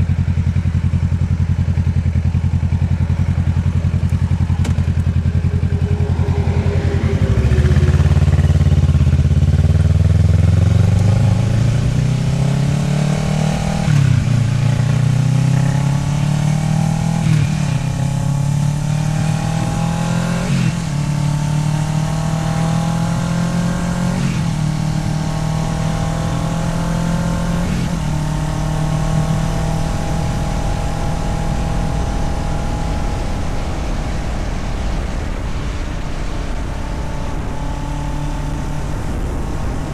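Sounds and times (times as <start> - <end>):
motorcycle engine shifting up: 0.0 - 39.9.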